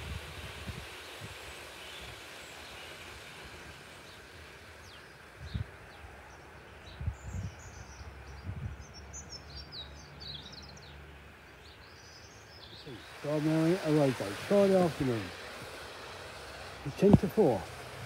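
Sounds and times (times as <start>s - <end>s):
steady hiss: 0.0s - 8.3s, 10.1s - 18.0s
small birds chirping: 0.8s - 18.0s.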